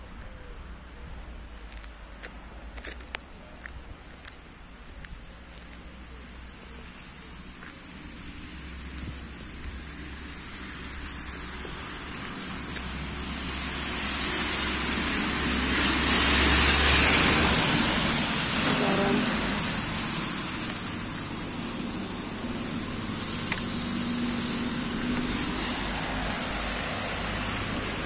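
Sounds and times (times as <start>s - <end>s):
car tyres hissing on wet road: 1.4s - 28.0s.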